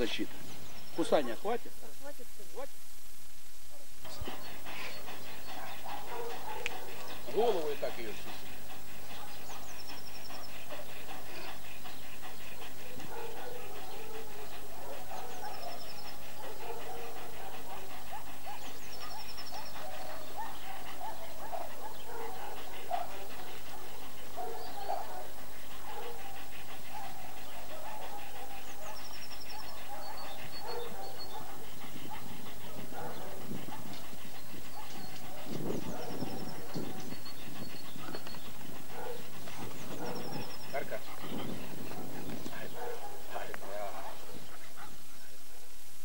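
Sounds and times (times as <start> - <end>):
dog panting: 0.0 - 1.6, 4.0 - 45.6.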